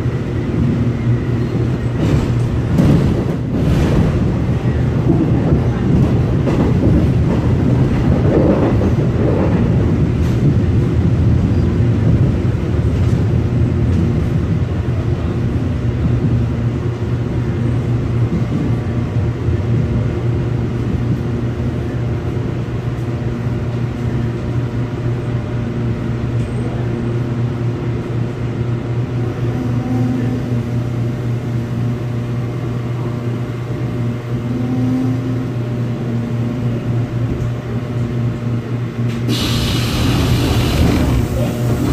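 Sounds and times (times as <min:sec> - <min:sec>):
train motor hum: 0:00.0 - 0:41.9
train wheels rumbling on track: 0:00.0 - 0:41.9.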